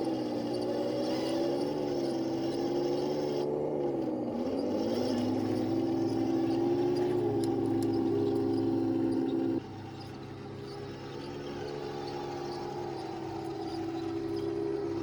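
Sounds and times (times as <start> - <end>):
electric motors and gearboxes whining: 0.0 - 15.0.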